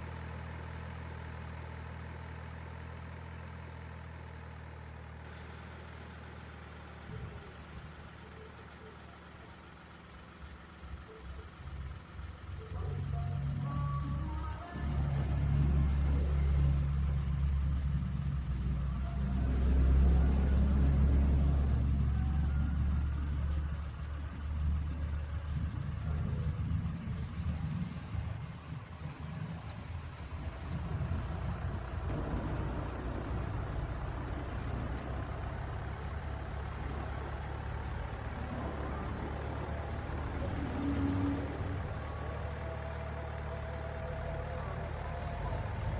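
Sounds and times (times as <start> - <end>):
toy crane truck motor rumble: 0.0 - 45.9.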